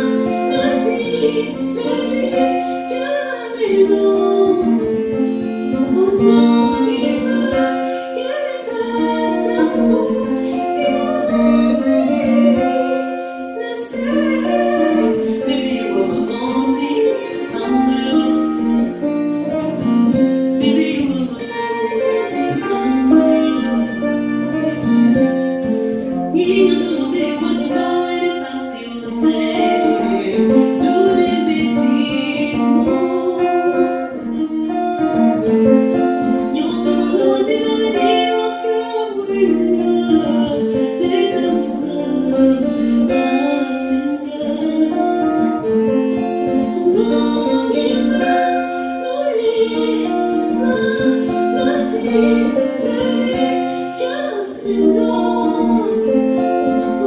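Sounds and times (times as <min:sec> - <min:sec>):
acoustic-electric guitar playing: 0:00.0 - 0:57.0.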